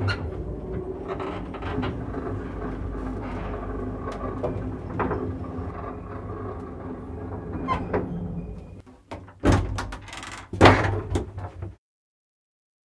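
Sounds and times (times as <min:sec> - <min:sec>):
lift gate rumbling: 0:00.0 - 0:11.4.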